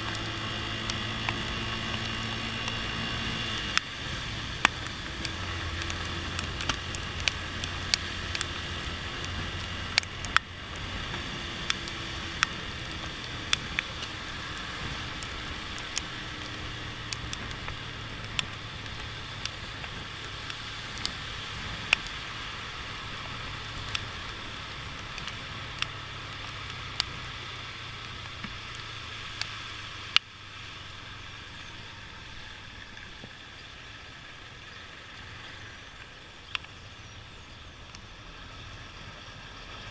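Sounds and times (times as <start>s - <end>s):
motorcycle engine: 0.0s - 36.2s
raindrops ticking on microphone: 0.0s - 39.9s
road and wind noise: 0.0s - 39.9s.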